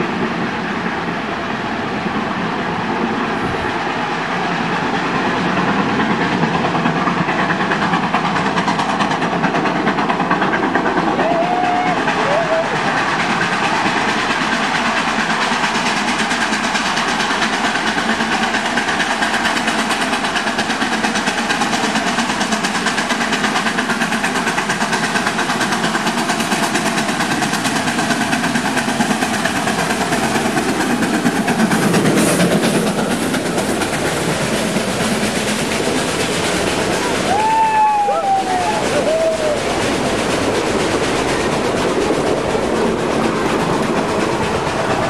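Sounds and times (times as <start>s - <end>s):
passenger coaches rolling by: 0.0s - 45.0s
steam locomotive running: 0.0s - 45.0s.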